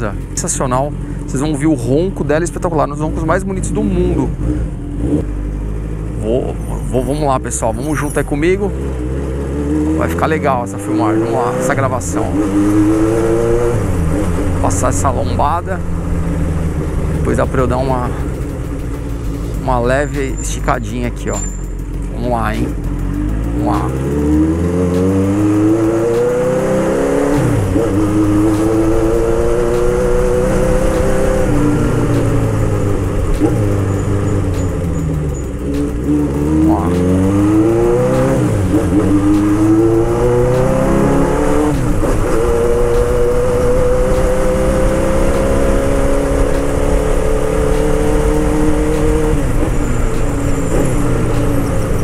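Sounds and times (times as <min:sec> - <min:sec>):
motorcycle engine accelerating: 0:02.7 - 0:52.0.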